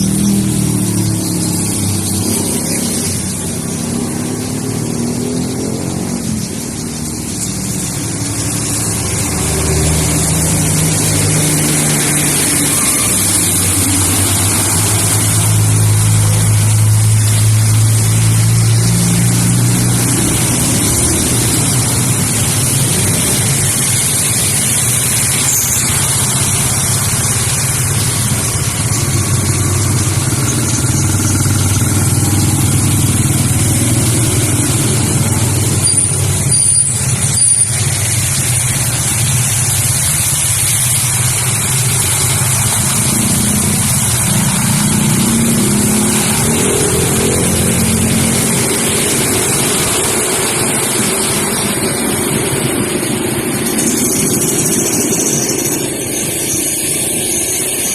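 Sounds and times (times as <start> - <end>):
tyres hissing through water: 0.0 - 57.9
vehicle engines running: 0.0 - 57.9.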